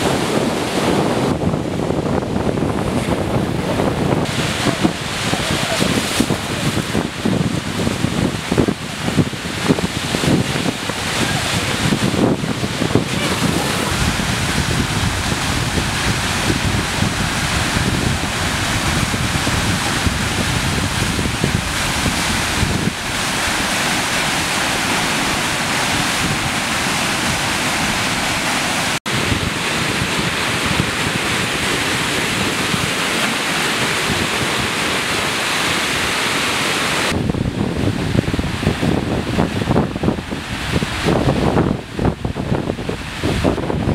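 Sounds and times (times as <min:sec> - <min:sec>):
flood water rushing: 0:00.0 - 0:43.9.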